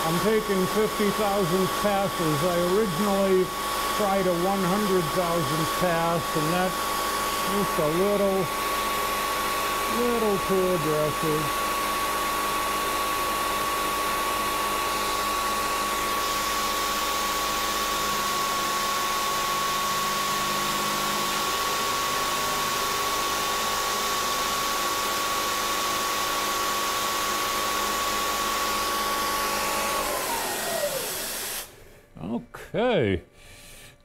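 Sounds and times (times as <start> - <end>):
milling machine whine: 0.0 - 31.7.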